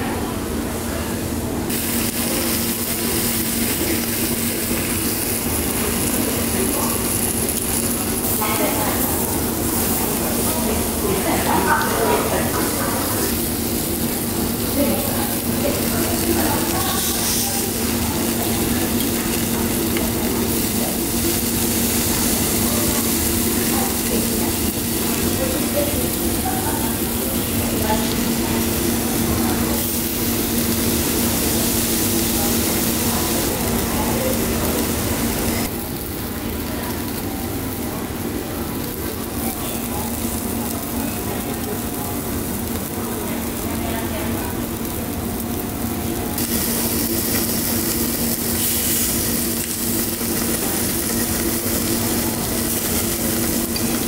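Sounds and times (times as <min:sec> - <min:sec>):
restaurant chatter: 0:00.0 - 0:54.0
meat sizzling on a grill: 0:01.7 - 0:54.0.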